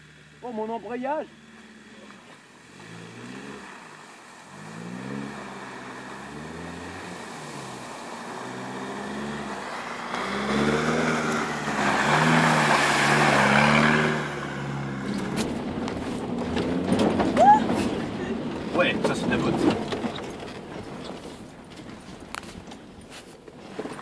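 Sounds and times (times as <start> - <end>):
off-road vehicle engine revving: 0.0 - 20.9
tyres spinning in mud: 4.5 - 24.0.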